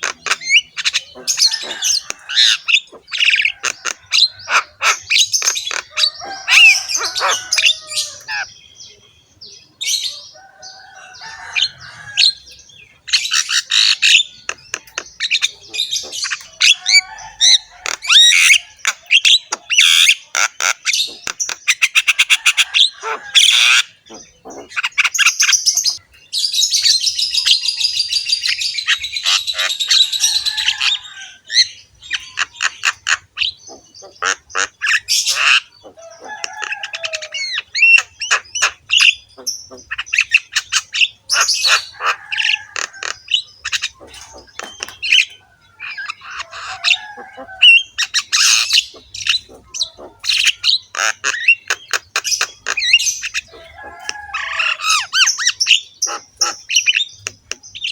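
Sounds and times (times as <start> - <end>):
myna bird singing and calling: 0.0 - 57.9.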